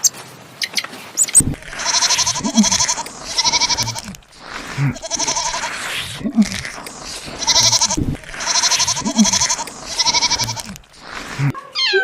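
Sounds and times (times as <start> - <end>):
goat bleating: 1.4 - 12.0.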